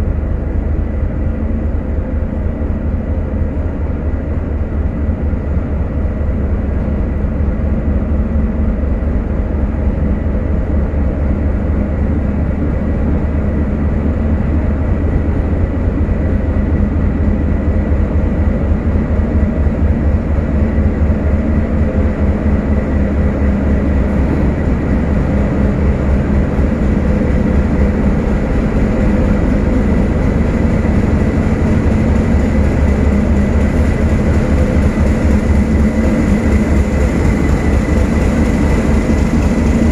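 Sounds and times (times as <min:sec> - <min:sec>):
locomotive engine rumble: 0:00.0 - 0:39.9.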